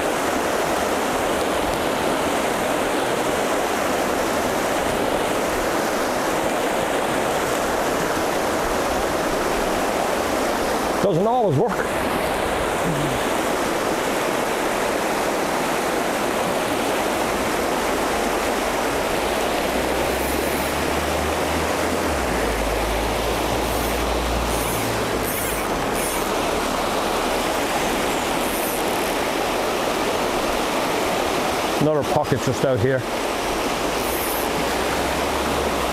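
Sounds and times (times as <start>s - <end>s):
river water rushing over rapids: 0.0s - 35.9s.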